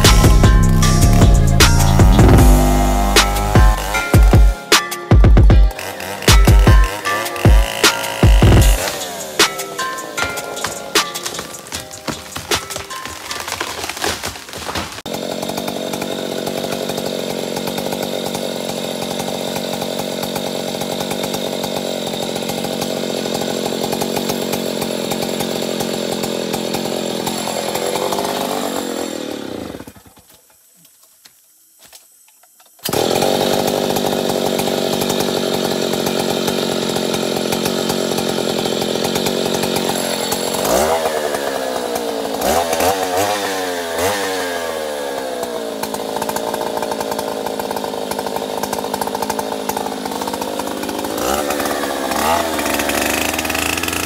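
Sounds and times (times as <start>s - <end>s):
chainsaw cutting: 0.0s - 30.4s, 32.8s - 54.0s.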